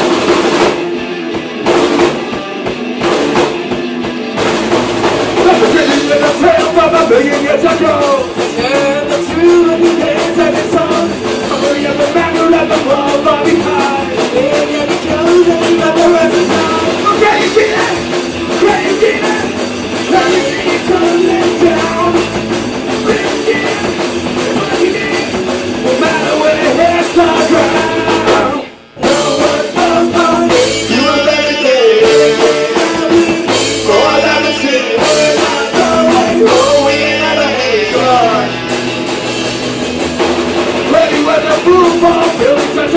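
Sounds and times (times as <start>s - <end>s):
punk rock band playing: 0.0s - 42.9s
person singing: 5.4s - 38.7s, 40.8s - 42.9s.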